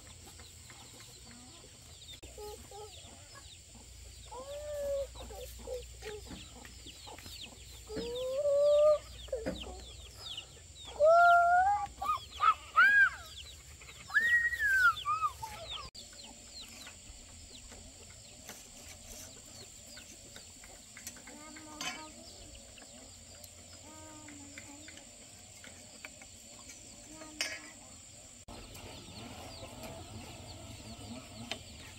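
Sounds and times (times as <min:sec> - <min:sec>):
chickens calling: 0:00.0 - 0:31.9
small birds chirping: 0:00.0 - 0:31.9.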